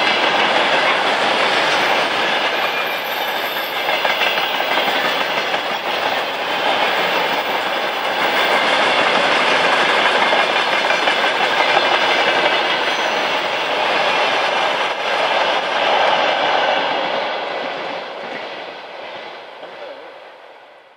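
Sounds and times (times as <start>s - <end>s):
train wheels clattering on rails: 0.0s - 20.4s.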